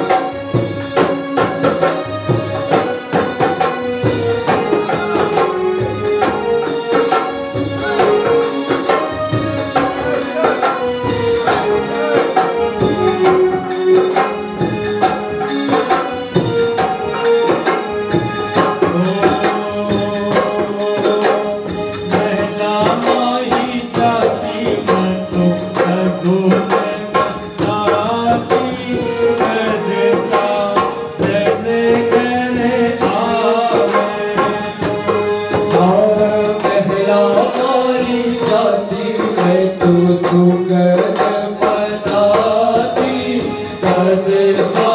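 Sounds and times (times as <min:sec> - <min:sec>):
hand drum: 0:00.0 - 0:44.9
steady jingling beat: 0:00.0 - 0:44.9.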